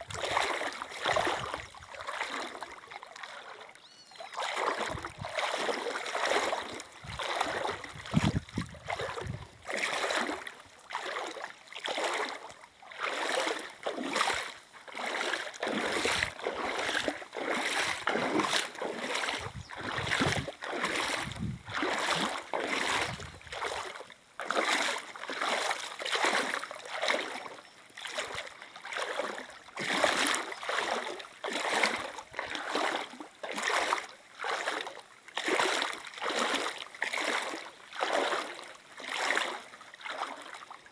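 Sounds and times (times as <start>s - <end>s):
water splashing: 0.0s - 40.7s.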